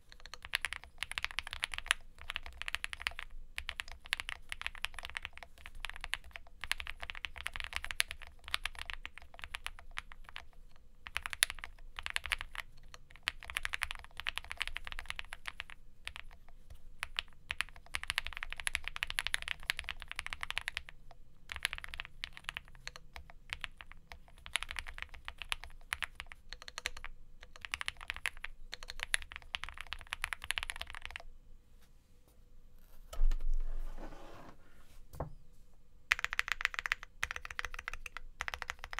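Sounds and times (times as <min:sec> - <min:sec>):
mechanical keyboard typing: 0:00.0 - 0:31.3, 0:36.1 - 0:38.9.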